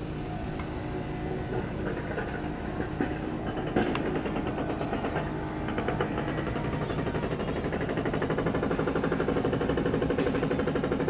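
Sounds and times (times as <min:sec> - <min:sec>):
diesel engine thumping: 0:00.0 - 0:11.0.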